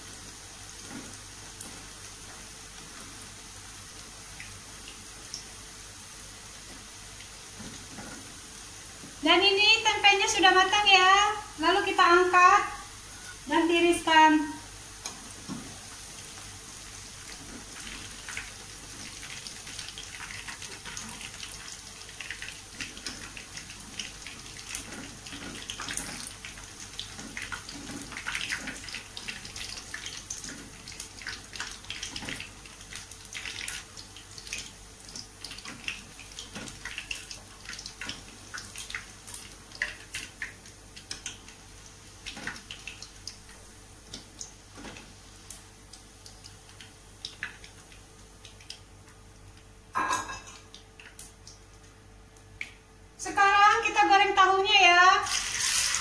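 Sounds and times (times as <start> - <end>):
food deep-frying in oil: 0.0 - 56.0.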